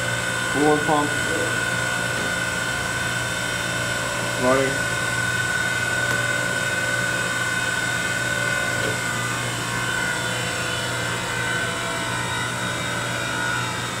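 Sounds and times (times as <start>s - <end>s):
coolant pump motor humming: 0.0s - 14.0s
high-pitched whine: 0.0s - 14.0s.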